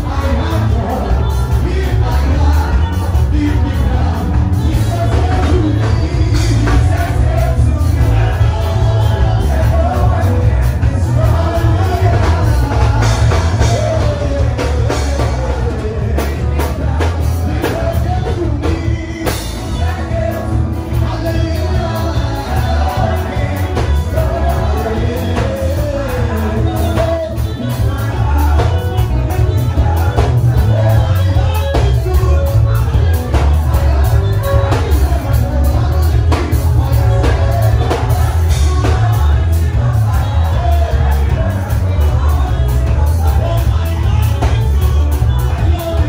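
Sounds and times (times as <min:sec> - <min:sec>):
drum kit: 0:00.0 - 0:46.0
heavy bass: 0:00.0 - 0:46.0
person singing: 0:00.0 - 0:46.0.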